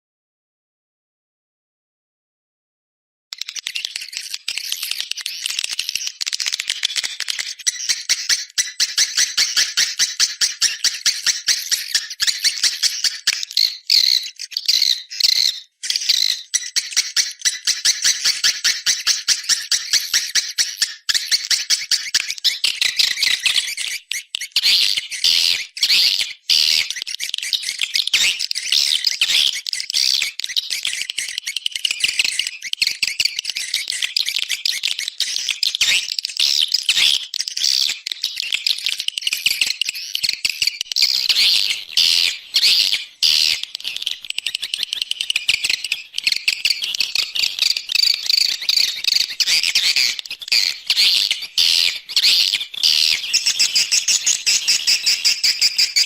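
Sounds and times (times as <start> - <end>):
swiftlet chirps and twitters: 3.4 - 56.0.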